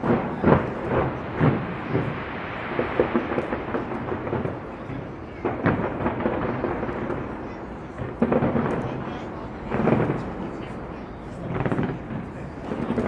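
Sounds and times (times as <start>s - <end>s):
fireworks booms and bangs: 0.0s - 13.0s.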